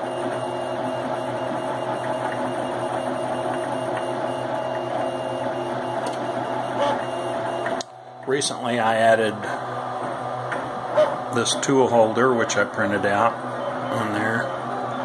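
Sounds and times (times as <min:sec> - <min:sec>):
printer motors whirring: 0:00.0 - 0:15.0.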